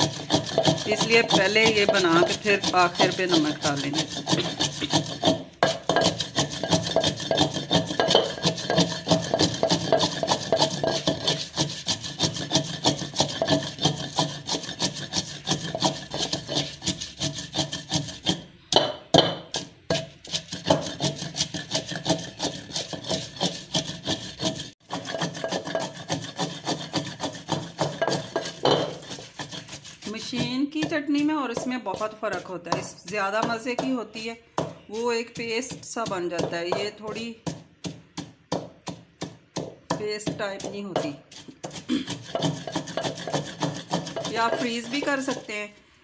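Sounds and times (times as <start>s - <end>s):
pestle grinding in clay mortar: 0.0s - 45.6s.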